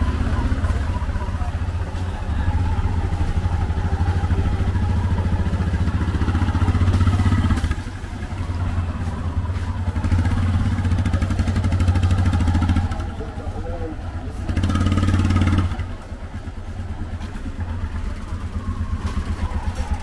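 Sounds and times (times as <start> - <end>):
small vehicle engine puttering: 0.0 - 20.0.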